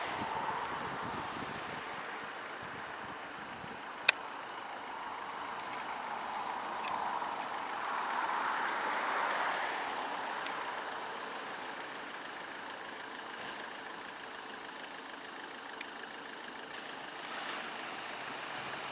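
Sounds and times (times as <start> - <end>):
vehicle engine and tyre noise: 0.0 - 18.9.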